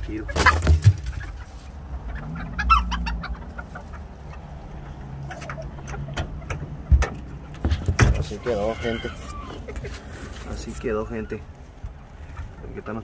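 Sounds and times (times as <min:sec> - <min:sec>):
chicken clucking: 0:00.1 - 0:13.0.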